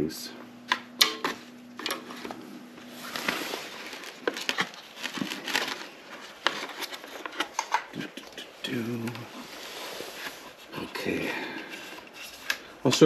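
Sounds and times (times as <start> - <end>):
rustling: 2.0 - 12.9.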